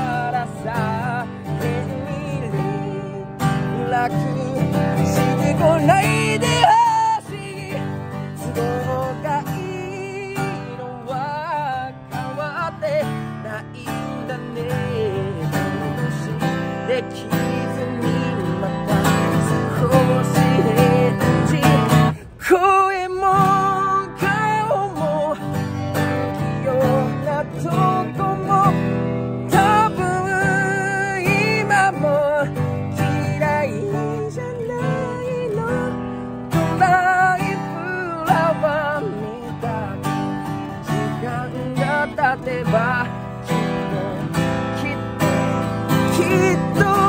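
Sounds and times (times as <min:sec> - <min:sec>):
man singing: 0:00.0 - 0:47.0
strummed acoustic guitar: 0:00.0 - 0:47.0.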